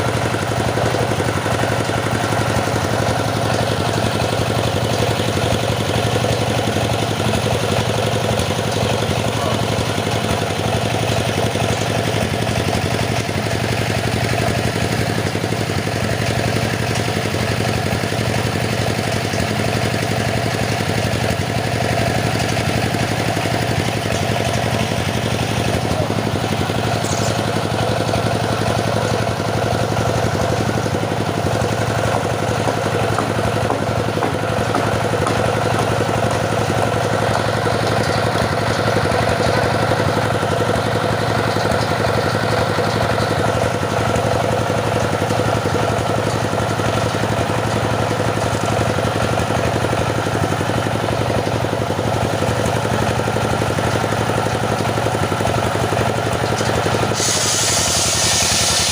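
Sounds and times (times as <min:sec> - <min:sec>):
saw engine running: 0:00.0 - 0:58.9.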